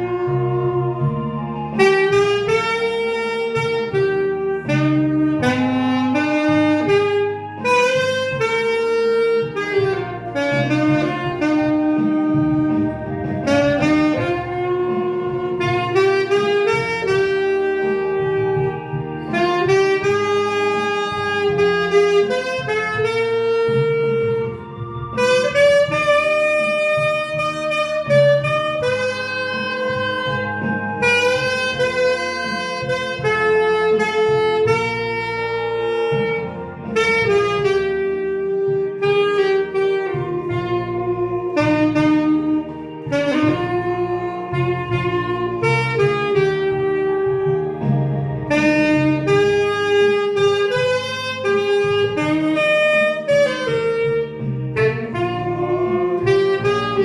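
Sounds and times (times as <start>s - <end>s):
backing accompaniment: 0.0s - 57.0s
saxophone melody: 0.0s - 57.0s.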